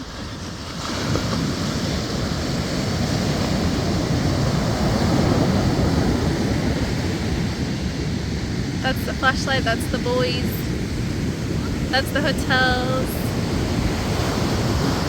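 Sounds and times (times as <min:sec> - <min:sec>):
ocean surf washing up: 0:00.0 - 0:15.0
wind on microphone: 0:00.0 - 0:15.0.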